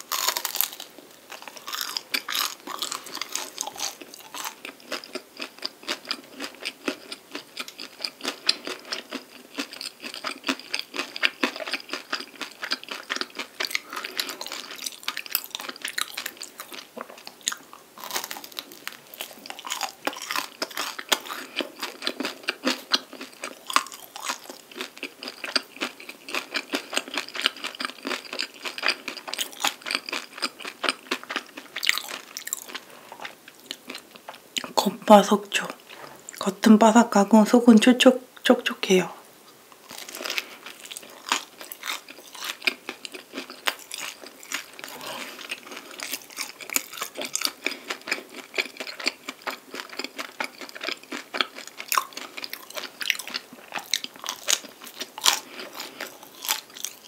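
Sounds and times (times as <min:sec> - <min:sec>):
crisp pastry crust crunching: 0:00.0 - 0:34.3, 0:39.8 - 0:57.0
soft chewing: 0:00.0 - 0:34.8, 0:39.4 - 0:57.0.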